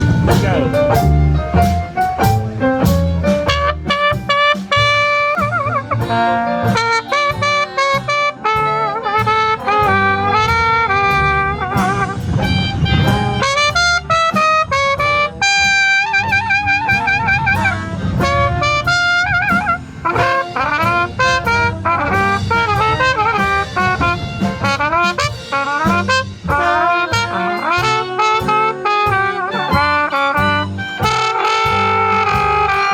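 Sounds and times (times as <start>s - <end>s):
blues band playing: 0.0s - 32.9s
wind instrument melody with vibrato: 0.0s - 32.9s.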